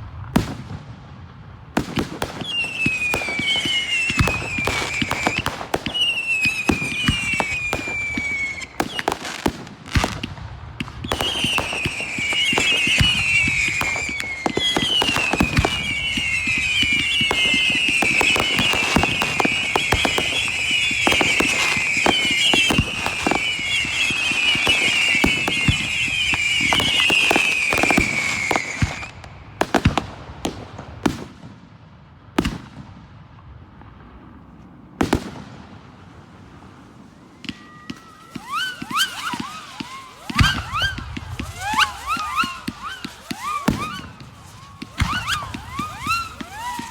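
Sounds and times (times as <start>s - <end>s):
fireworks pops and bangs: 0.0s - 46.9s
fireworks whistles falling in pitch: 1.9s - 30.0s, 37.0s - 46.9s.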